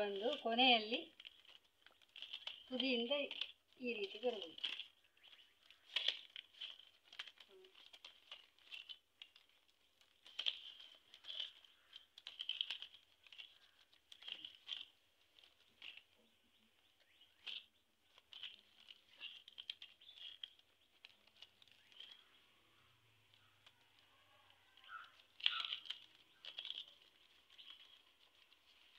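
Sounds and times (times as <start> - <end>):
dry leaves rustling and crackling: 0.0 - 28.9.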